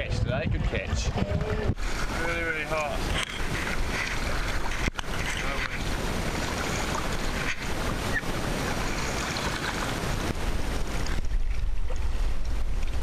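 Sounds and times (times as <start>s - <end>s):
water splashing against wooden hull: 0.0s - 13.0s
wind buffeting microphone: 0.0s - 13.0s.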